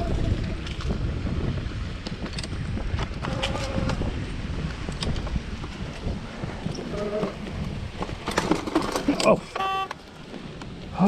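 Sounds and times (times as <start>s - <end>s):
bike clicks and rattles: 0.0s - 10.9s
wind buffeting microphone: 0.0s - 11.0s.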